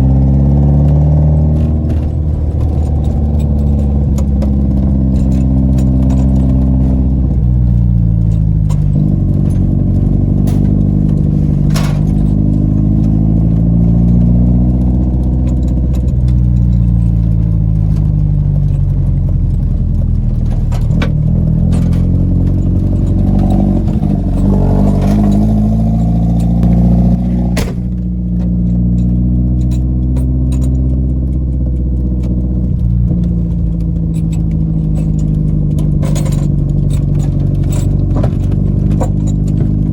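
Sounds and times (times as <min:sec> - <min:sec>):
car engine revving: 0:00.0 - 0:39.9
knocks and rattles: 0:00.0 - 0:39.9.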